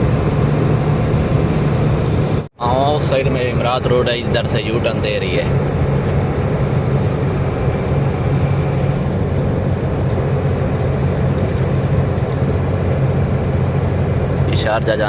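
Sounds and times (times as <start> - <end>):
diesel truck engine drone: 0.0 - 15.0
tyre and road noise: 0.0 - 15.0.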